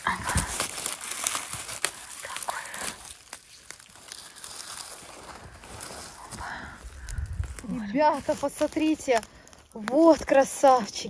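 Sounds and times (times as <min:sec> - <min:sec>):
dry leaves and twigs crackling: 0:00.0 - 0:11.0.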